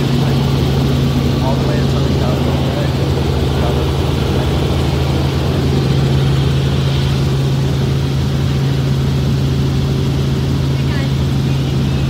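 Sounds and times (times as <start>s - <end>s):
constant low hum: 0.0s - 12.0s
helicopter rotor and turbine drone: 0.0s - 12.0s.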